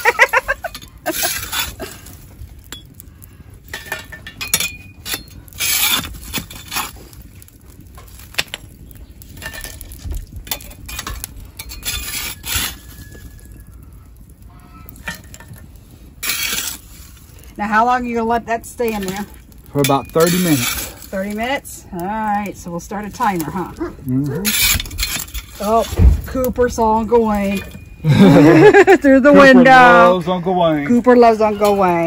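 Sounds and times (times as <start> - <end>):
shovel scraping charcoal on metal: 0.0 - 13.7, 14.4 - 32.0.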